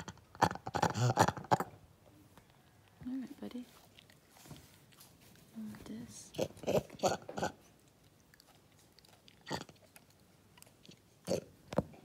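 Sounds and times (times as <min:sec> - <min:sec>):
monkey chewing and crunching food: 0:00.0 - 0:12.0.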